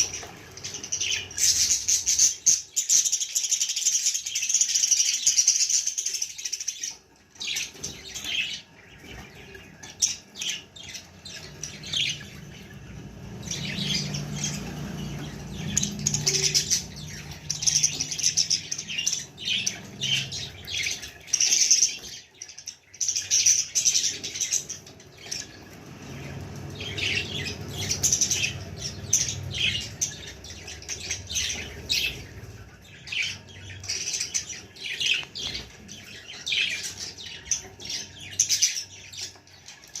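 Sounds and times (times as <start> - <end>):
budgies chirping and squawking: 0.0 - 40.0.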